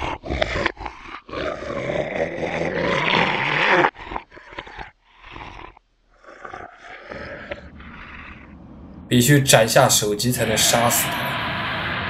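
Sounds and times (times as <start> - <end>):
monster roaring and growling: 0.0 - 4.2, 6.2 - 12.0.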